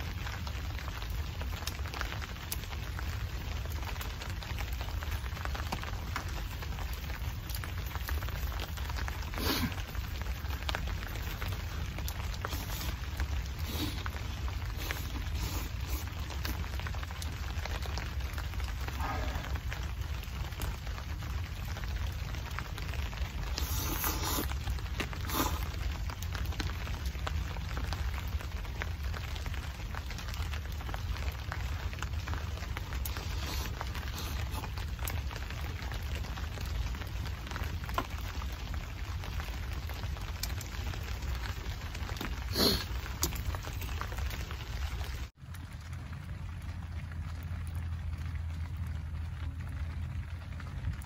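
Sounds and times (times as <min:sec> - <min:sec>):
rain on a tarp: 0:00.0 - 0:51.0
wood fire crackling: 0:00.0 - 0:51.0.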